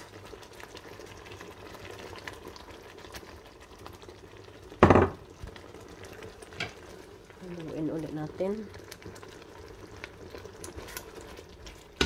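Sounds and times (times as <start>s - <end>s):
sauce simmering in a frying pan: 0.0s - 12.0s.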